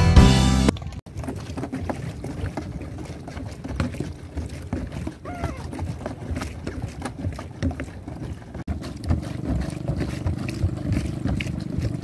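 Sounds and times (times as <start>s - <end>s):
boat engine running: 0.0s - 12.0s
footsteps on plastic pier: 0.7s - 12.0s.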